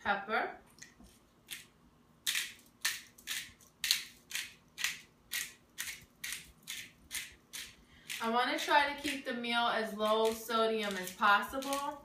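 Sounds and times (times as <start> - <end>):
pepper grinder grinding: 1.5 - 12.0.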